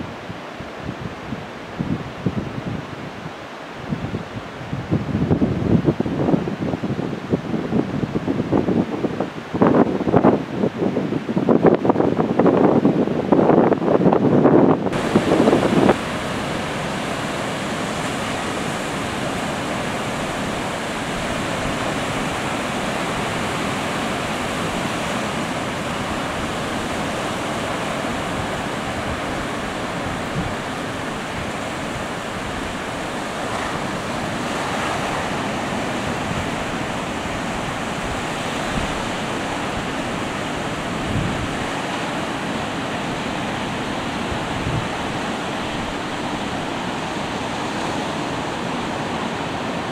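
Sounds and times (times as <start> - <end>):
waves washing up a beach: 0.0 - 49.9.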